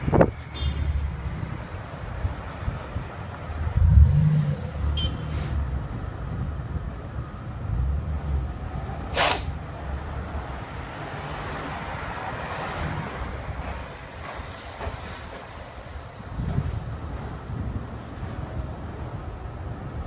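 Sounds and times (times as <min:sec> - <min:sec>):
city street traffic: 0:00.0 - 0:20.0
wind rumbling on microphone: 0:00.0 - 0:20.0.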